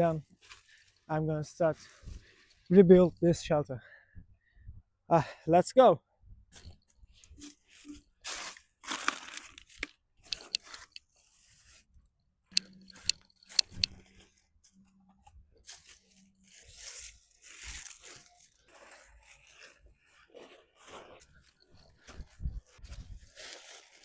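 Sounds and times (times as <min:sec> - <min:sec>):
crunching and rustling of forest debris: 0:00.0 - 0:03.0, 0:06.6 - 0:11.9, 0:13.0 - 0:24.0.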